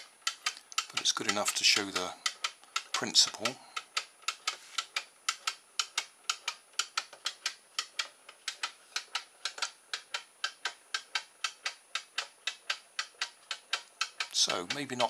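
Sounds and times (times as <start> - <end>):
clock ticking fast: 0.0 - 15.0.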